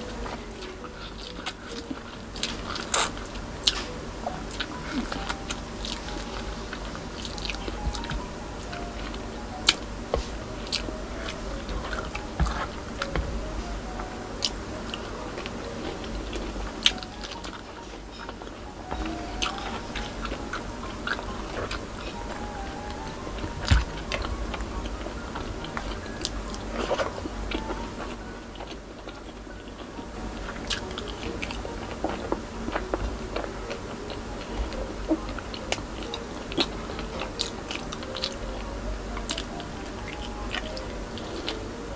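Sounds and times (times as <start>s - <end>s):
close chewing and biting: 0.0s - 41.9s.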